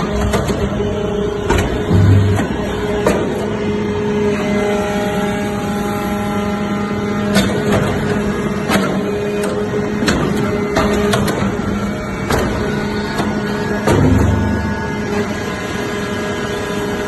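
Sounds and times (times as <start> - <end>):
baler machine hum: 0.0 - 17.0.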